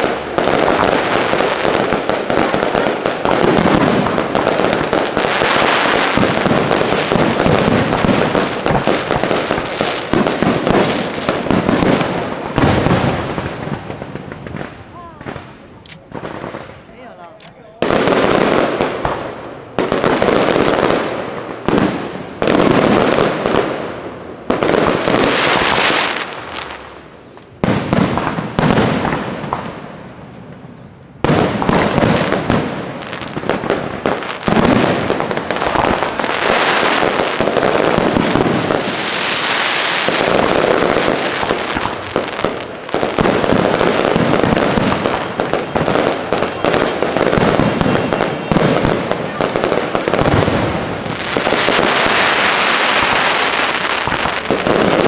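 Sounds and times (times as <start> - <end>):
fireworks bursting with crackling: 0.0 - 55.0.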